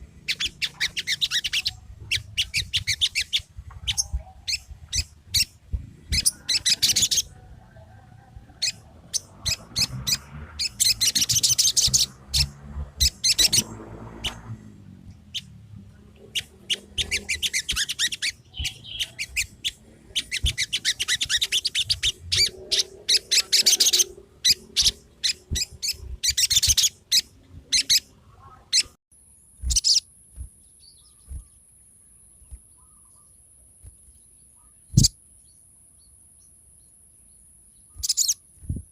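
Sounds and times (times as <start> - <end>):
bird chirping chatter: 0.0 - 38.7.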